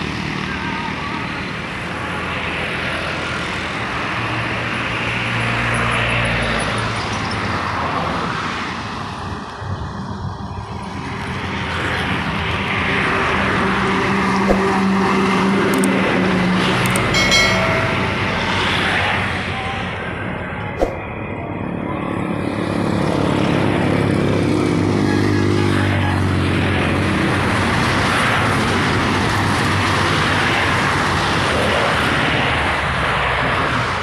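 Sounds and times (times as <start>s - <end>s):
highway traffic passing: 0.0s - 34.0s.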